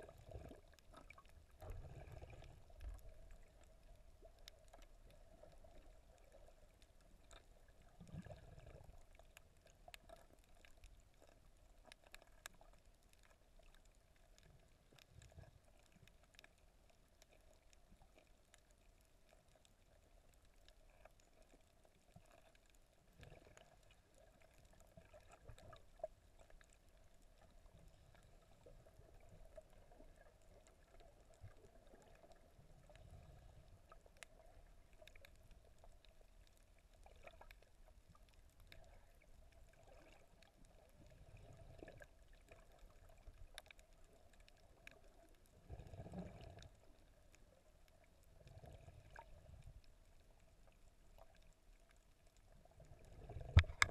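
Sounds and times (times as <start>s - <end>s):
water movement swells: 0.0s - 53.9s
faint clicks: 0.5s - 45.4s, 46.1s - 53.9s.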